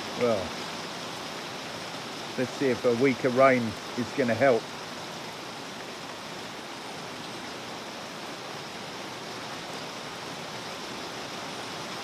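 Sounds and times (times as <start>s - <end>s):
rain falling on pond: 0.0s - 12.0s.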